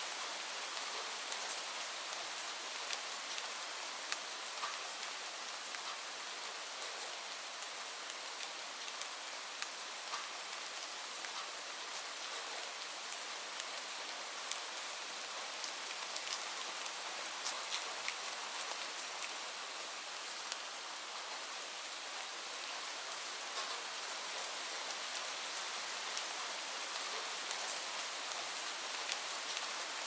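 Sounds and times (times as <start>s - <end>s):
rain falling on leaves: 0.0s - 30.0s.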